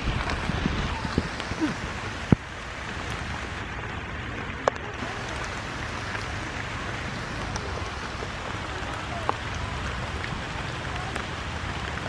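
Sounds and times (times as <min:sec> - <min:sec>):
rain falling on leaves: 0:00.0 - 0:12.0.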